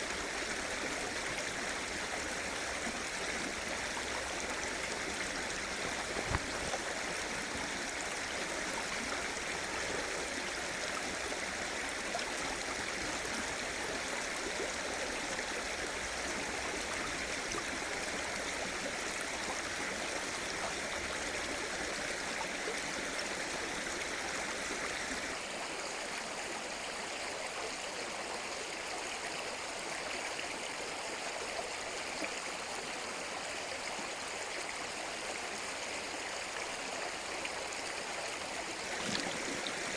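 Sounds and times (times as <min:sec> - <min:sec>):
stream rushing over rocks: 0:00.0 - 0:27.8, 0:33.8 - 0:39.9.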